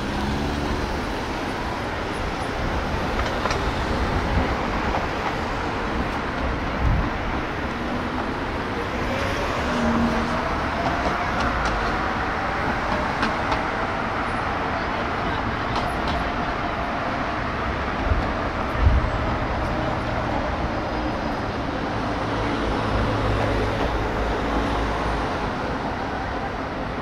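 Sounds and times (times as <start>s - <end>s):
city street traffic: 0.0s - 27.0s.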